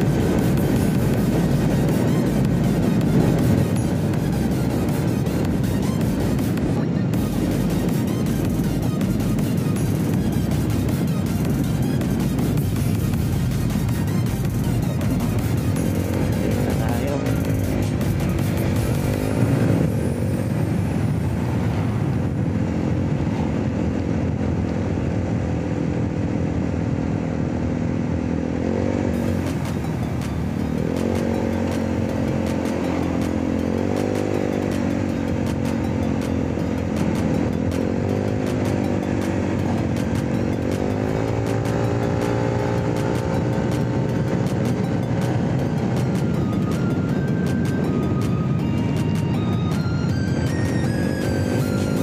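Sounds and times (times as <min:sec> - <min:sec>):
scooter engine running: 0:00.0 - 0:52.0
wind and road noise: 0:00.0 - 0:52.0.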